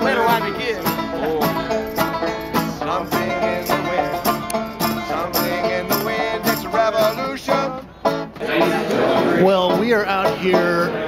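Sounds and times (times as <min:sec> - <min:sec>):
banjo playing: 0:00.0 - 0:11.0
guitar playing: 0:00.0 - 0:11.0.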